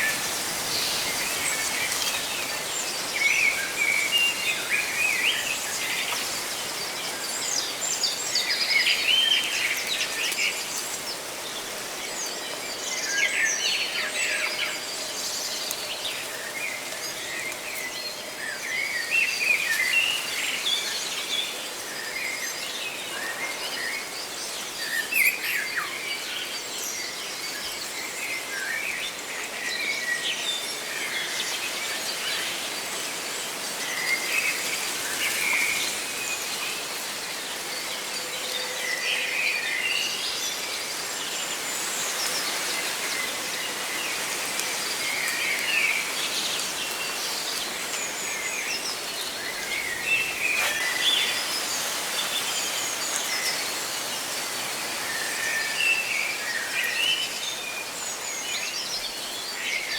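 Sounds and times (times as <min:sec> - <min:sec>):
leaves rustling in wind: 0:00.0 - 0:59.9.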